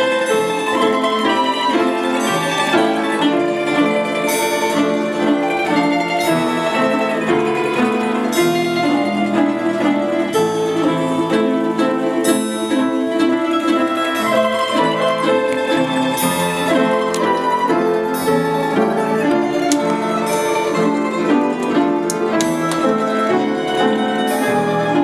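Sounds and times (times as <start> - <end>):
orchestra playing: 0.0 - 25.0.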